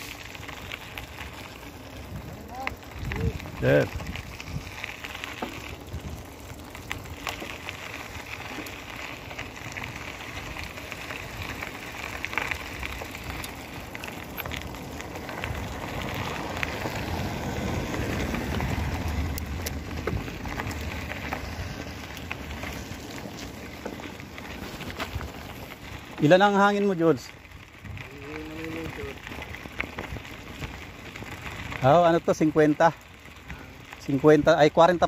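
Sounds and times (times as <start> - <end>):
bicycle clicks and rattles: 0.0 - 35.0
bicycle tyres rolling on rough road: 0.0 - 35.0.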